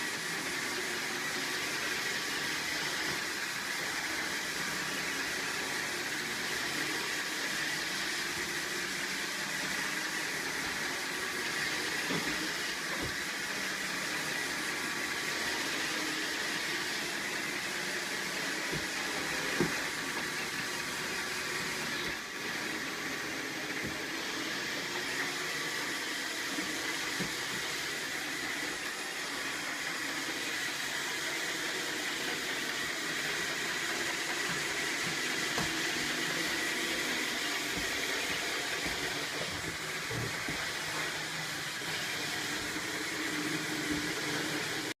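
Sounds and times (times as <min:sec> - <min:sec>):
robot vacuum whirring: 0:00.0 - 0:45.0.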